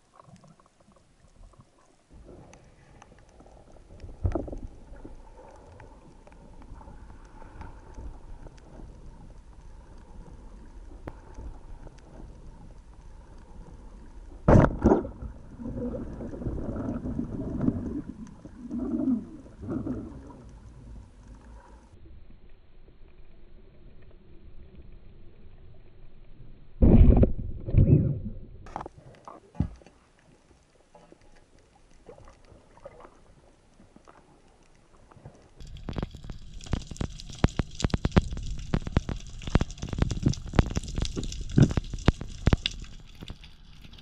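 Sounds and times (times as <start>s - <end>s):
underwater rumble of moving water: 0.0s - 44.0s.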